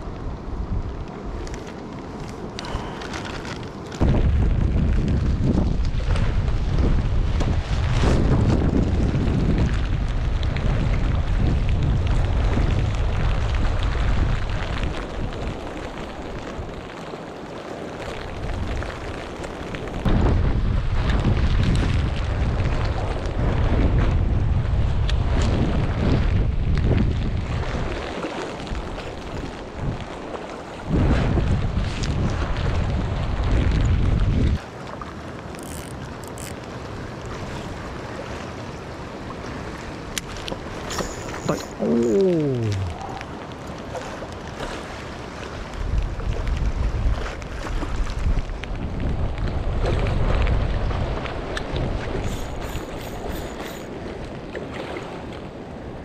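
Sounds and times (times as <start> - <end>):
wind buffeting microphone: 0.0 - 34.6, 35.4 - 56.0
sea surf: 0.0 - 56.0.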